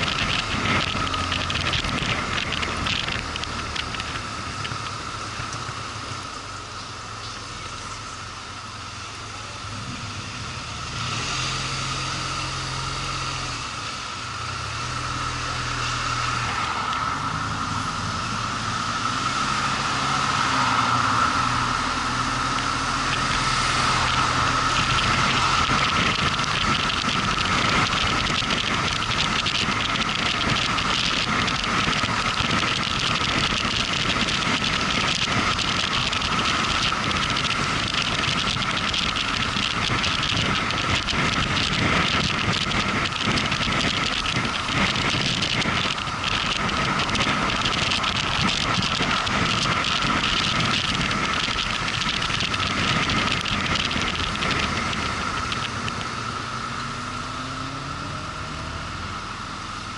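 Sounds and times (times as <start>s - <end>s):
wind noise: 0.0s - 6.0s, 14.6s - 57.9s
motorcycle engine: 0.0s - 59.9s
road noise: 0.0s - 59.9s.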